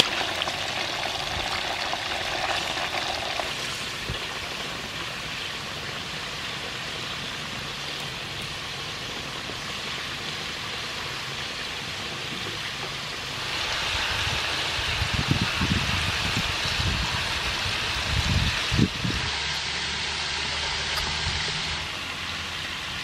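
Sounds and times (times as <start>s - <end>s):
oil sizzling in a wok: 0.0s - 23.0s.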